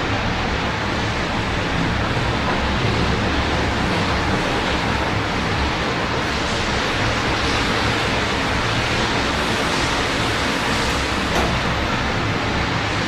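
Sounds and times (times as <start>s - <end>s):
low rumble of city traffic: 0.0s - 13.0s
rain falling: 0.0s - 13.0s.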